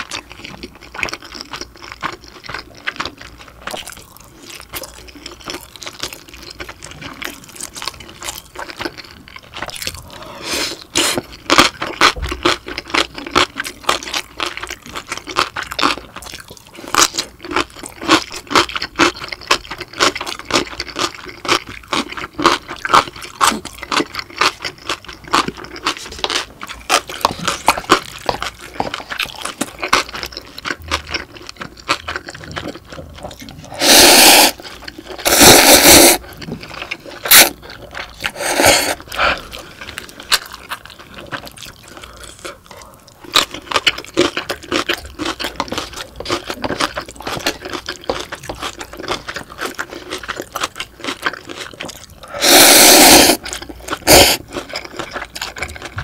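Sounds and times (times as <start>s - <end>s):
chewing with wet mouth clicks: 0.0s - 10.1s, 10.7s - 33.7s, 36.2s - 56.0s
food crunching: 0.0s - 56.0s.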